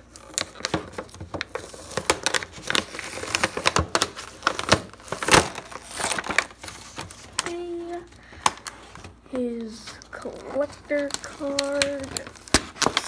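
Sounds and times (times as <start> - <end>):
cardboard tearing: 0.0 - 8.0, 10.2 - 13.0
plastic packaging crackling: 0.0 - 13.0.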